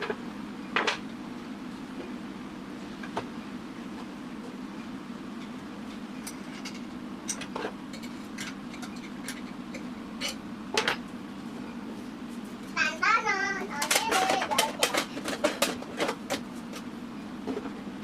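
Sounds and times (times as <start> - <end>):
coffee roasting machine humming: 0.0 - 18.0.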